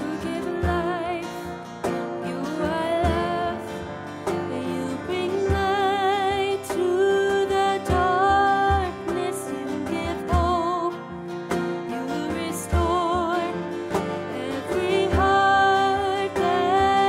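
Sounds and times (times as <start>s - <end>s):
piano: 0.0s - 17.0s
strummed acoustic guitar: 0.0s - 17.0s
woman singing: 0.0s - 17.0s.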